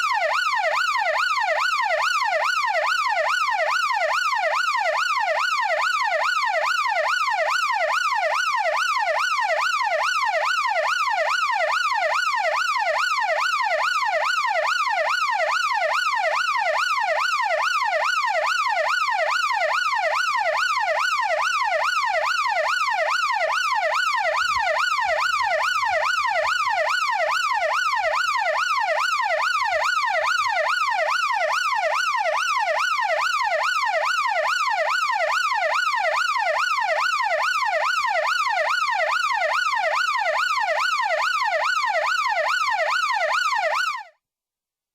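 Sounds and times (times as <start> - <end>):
yelp siren: 0.0 - 44.2.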